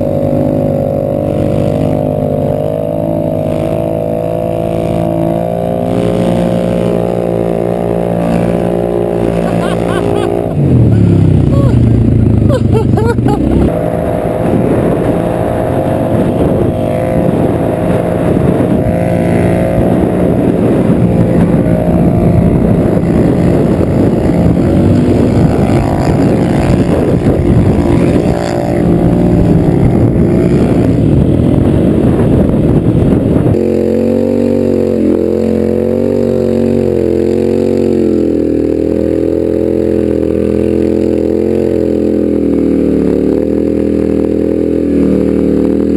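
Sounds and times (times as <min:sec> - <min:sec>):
go-kart engine running rough: 0:00.0 - 0:45.9.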